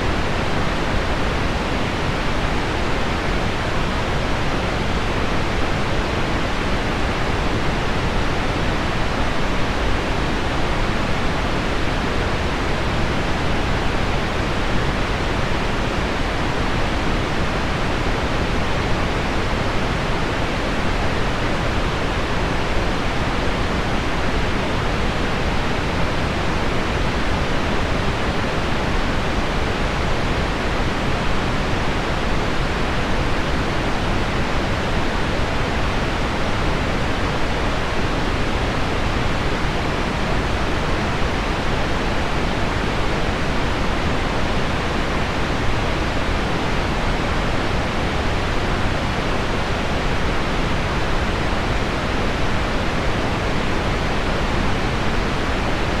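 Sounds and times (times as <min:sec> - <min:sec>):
pink noise: 0:00.0 - 0:56.0.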